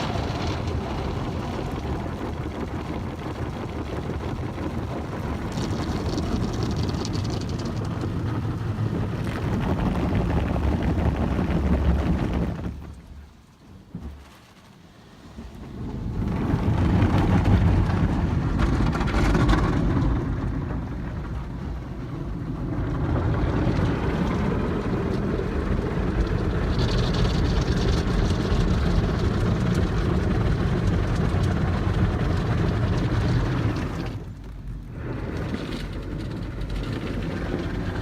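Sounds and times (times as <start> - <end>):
car wash spray and machinery: 0.0 - 38.0.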